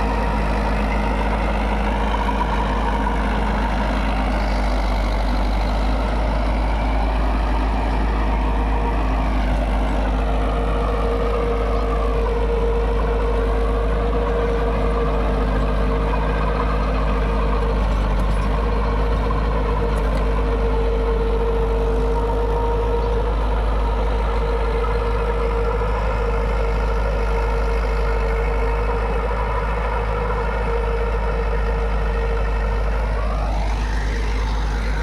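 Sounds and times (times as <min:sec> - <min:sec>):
steady whine: 0:00.0 - 0:35.0
tractor diesel engine running: 0:00.0 - 0:35.0.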